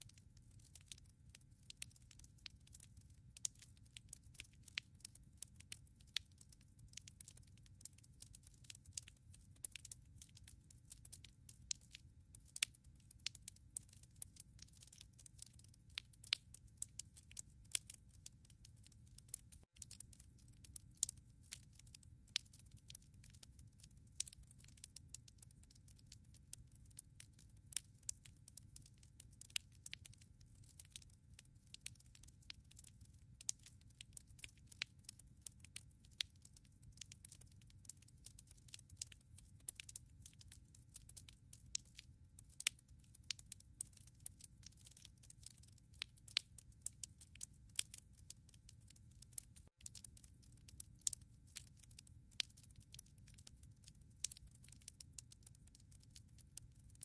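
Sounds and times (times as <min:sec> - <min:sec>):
wood fire crackling: 0:00.0 - 0:56.6.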